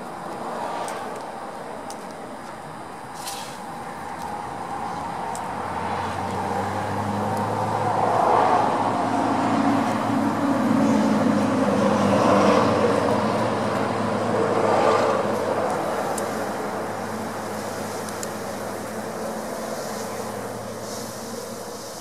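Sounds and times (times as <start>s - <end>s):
road noise: 0.0s - 22.0s
vehicle engine hum: 0.0s - 22.0s.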